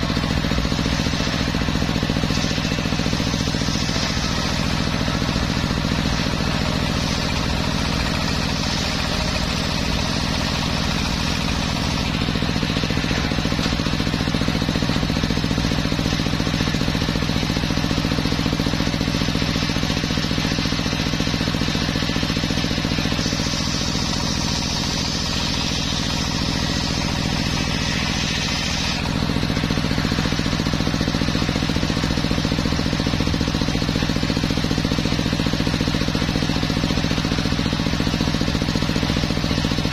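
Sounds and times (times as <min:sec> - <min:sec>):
circular saw cutting wood: 0:00.0 - 0:39.9
machine hum: 0:00.0 - 0:39.9.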